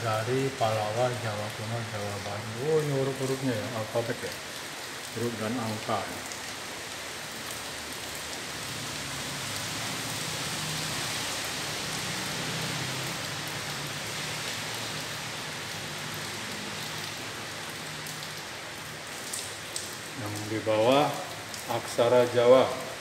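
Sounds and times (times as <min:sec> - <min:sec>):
steady rain hissing: 0:00.0 - 0:23.0.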